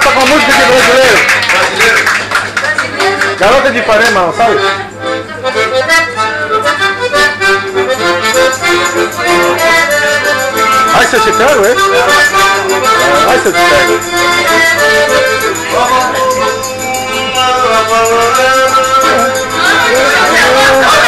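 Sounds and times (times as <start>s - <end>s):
piano accordion playing: 2.9s - 21.0s.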